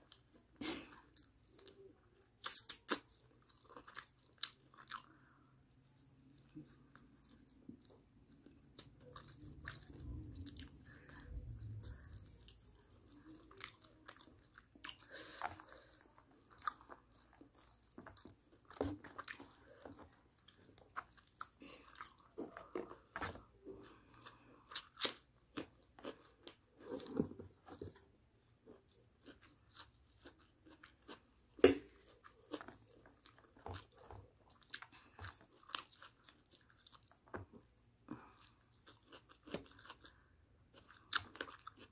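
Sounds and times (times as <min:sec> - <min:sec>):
chewing and biting food: 0:00.0 - 0:41.9.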